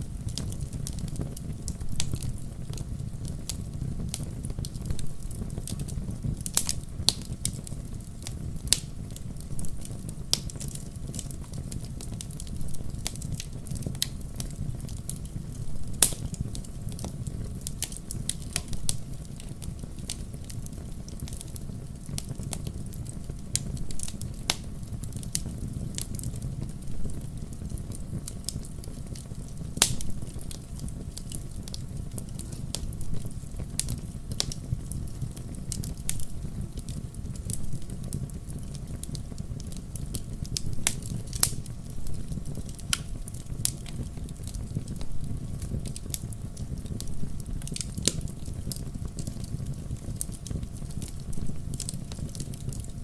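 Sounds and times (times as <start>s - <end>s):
campfire crackles and pops: 0.0s - 53.0s
low rumble of flames: 0.0s - 53.0s.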